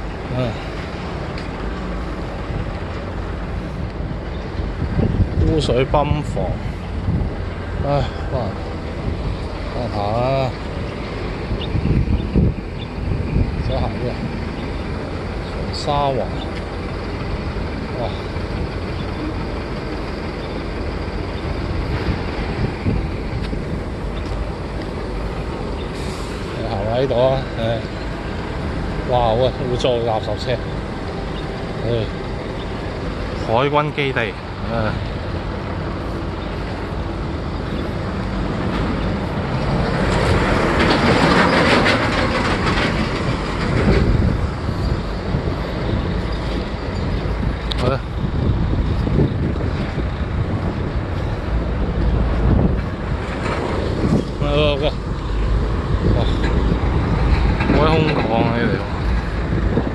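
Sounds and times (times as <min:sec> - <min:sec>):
truck driving past rumbling: 0:00.0 - 0:59.9
wind buffeting microphone: 0:00.0 - 0:59.9.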